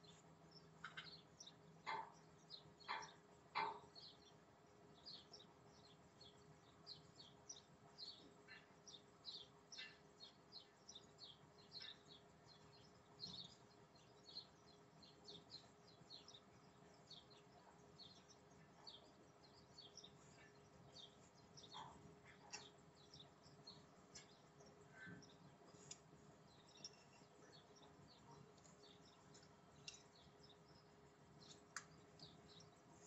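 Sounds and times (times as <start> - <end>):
low steady hum: 0.0 - 33.0
small birds chirping: 0.0 - 33.0.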